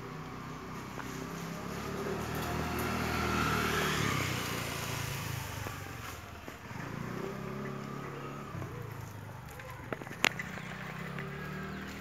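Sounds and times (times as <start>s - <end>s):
passing motor vehicle engine: 0.0s - 12.0s.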